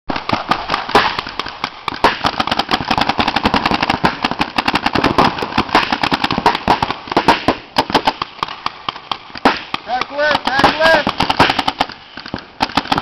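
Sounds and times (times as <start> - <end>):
paintball markers firing: 0.1 - 13.0.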